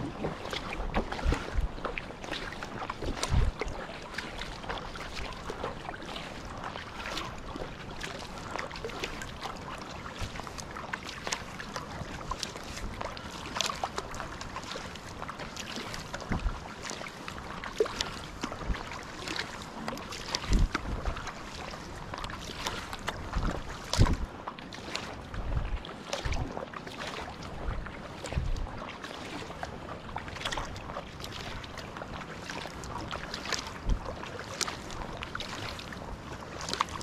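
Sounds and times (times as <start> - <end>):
kayak paddle splashing: 0.0 - 37.0
water washing along hull: 0.0 - 37.0.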